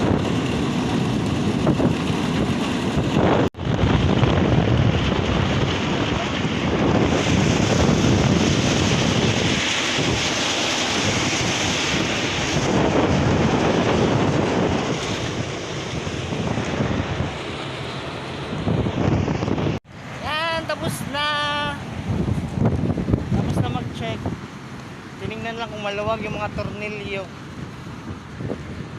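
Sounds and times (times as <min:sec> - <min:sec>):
strong wind buffeting microphone: 0:00.0 - 0:28.9.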